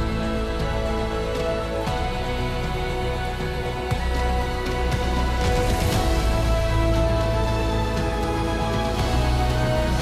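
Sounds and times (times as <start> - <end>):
music with held notes: 0.0 - 10.0.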